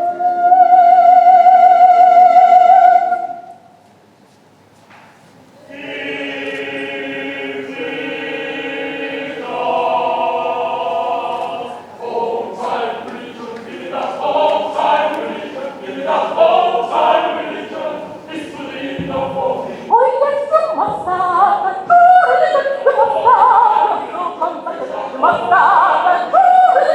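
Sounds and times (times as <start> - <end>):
choir singing: 0.0 - 3.6, 5.6 - 26.9.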